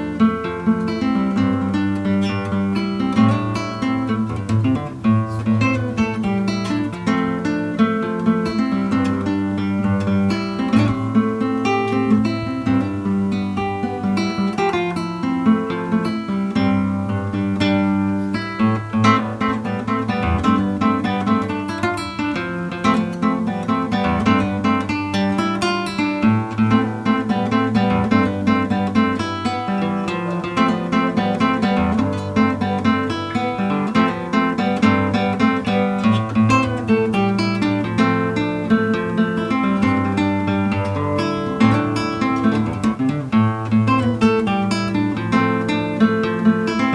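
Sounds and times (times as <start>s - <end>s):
classical guitar piece: 0.0s - 46.9s.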